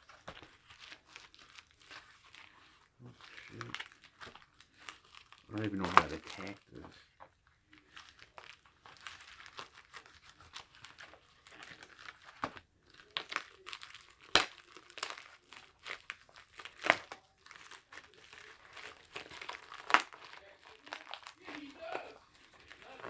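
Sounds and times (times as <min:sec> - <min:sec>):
packaging crinkling and tearing: 0:00.0 - 0:23.0.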